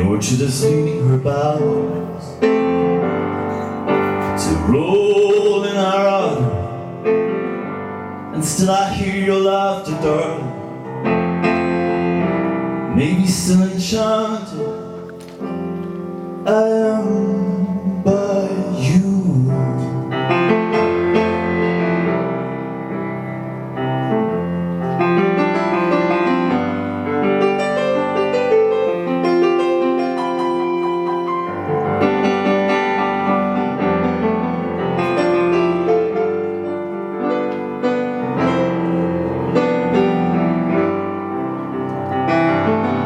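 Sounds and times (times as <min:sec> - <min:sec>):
piano playing chords and melody: 0:00.0 - 0:43.0.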